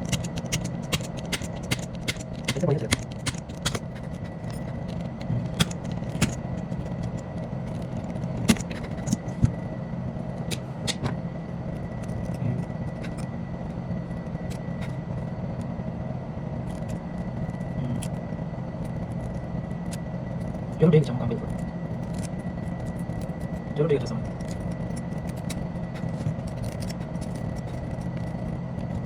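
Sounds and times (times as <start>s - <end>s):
faint high whine: 0.0s - 29.0s
low mechanical hum: 0.0s - 29.0s.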